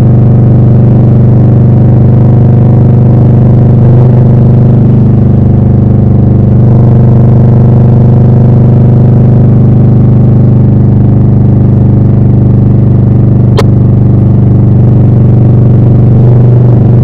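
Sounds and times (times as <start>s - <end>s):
motorcycle engine exhaust: 0.0s - 17.0s.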